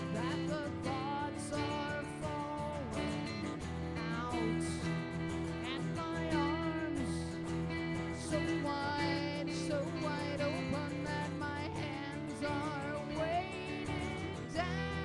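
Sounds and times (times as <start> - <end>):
strummed acoustic guitars: 0.0 - 15.0.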